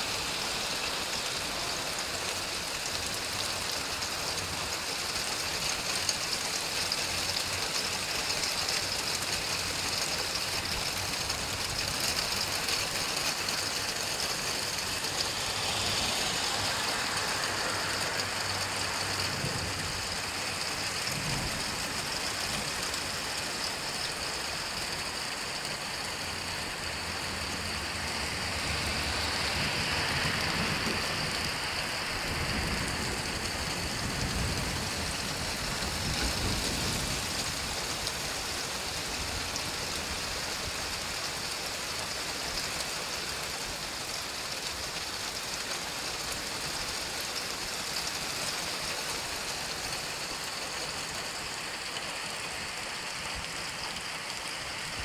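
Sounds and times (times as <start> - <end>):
rain and hail pelting asphalt: 0.0 - 55.0.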